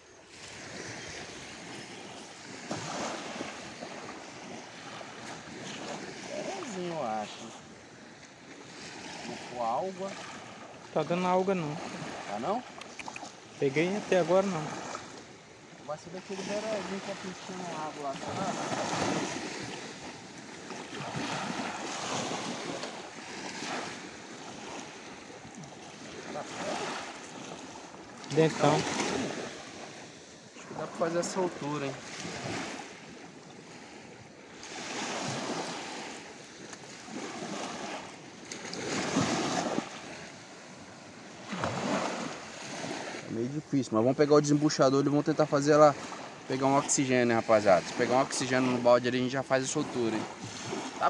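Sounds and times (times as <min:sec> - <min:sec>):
sea surf washing ashore: 0:00.0 - 0:51.0.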